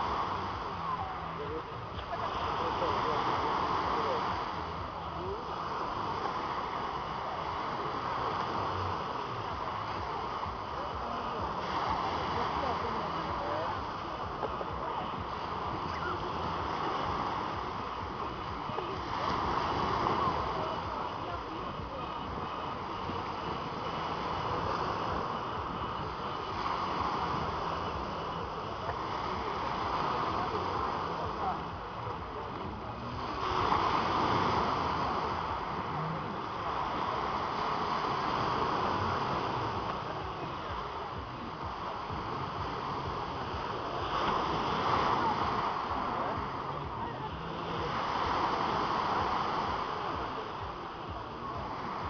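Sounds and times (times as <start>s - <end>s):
waves washing over pebbles: 0.0s - 52.0s.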